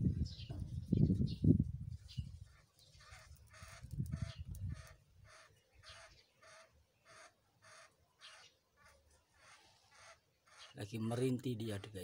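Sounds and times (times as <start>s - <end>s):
bird harsh calls: 2.1s - 12.0s.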